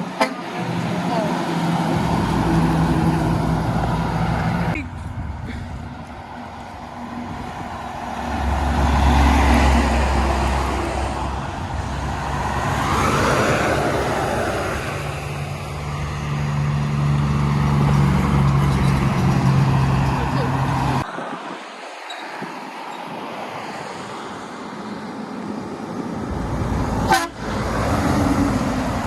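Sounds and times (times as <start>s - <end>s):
trucks passing: 0.0s - 29.0s.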